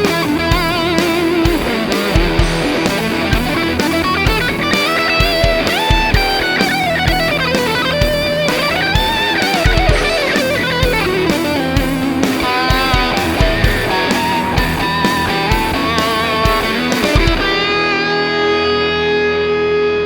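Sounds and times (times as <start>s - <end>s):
distorted electric guitar lead: 0.0s - 20.0s.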